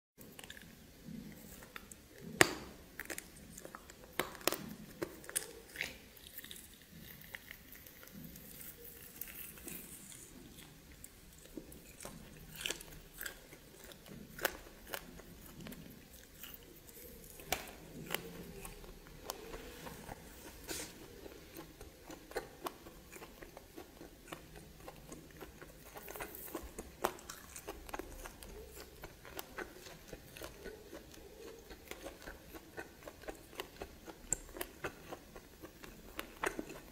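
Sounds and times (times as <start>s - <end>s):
person chewing with crunches: 0.2s - 36.9s.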